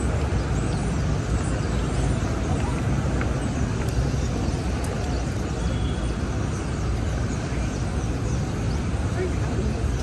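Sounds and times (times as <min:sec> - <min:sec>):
low rumble of passing vehicles: 0:00.0 - 0:10.0.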